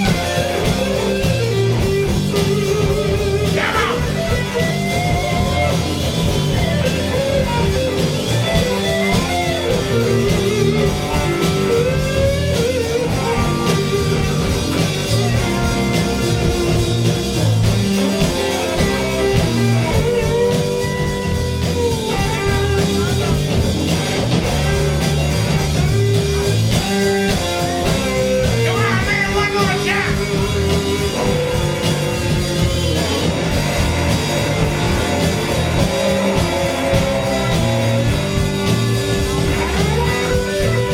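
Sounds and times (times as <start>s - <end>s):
electric guitar lines: 0.0s - 40.9s
live blues-rock band: 0.0s - 40.9s.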